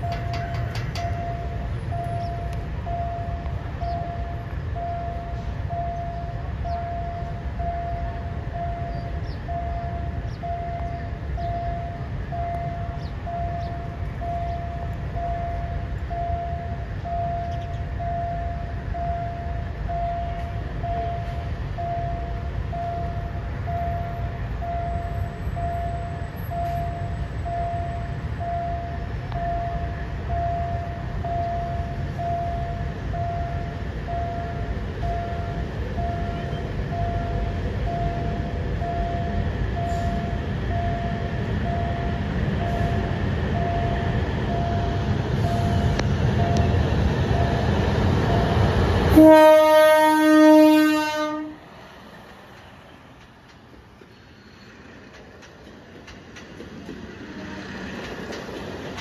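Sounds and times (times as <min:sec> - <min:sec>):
level crossing warning tone: 0:00.0 - 0:51.7
diesel railcar rumble: 0:00.0 - 0:59.0
traffic: 0:00.0 - 0:59.0.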